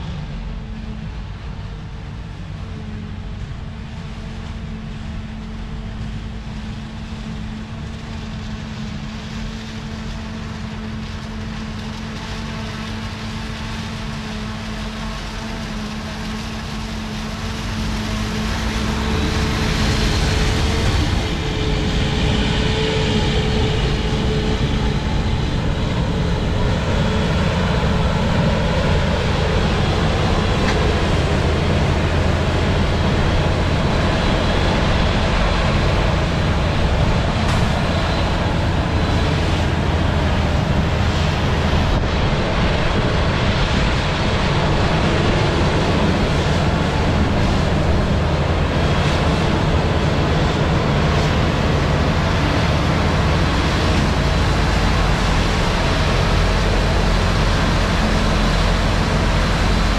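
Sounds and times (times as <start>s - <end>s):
forage harvester running: 0.0s - 59.9s
truck running: 0.0s - 59.9s.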